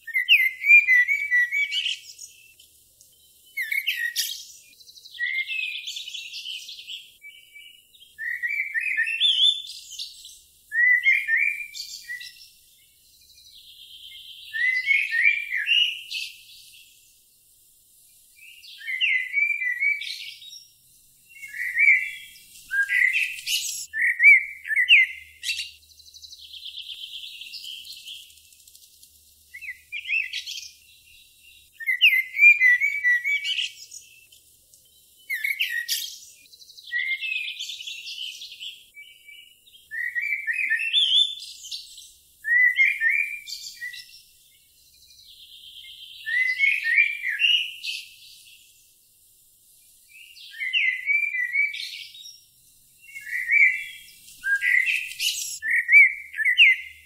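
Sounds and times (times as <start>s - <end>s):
birds chirping: 0.0s - 57.0s
thin buzzy bird trill: 0.0s - 57.0s.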